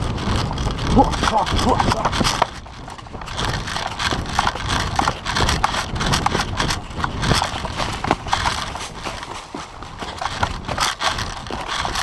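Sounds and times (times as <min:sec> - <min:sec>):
footsteps crunching through twigs: 0:00.5 - 0:12.0.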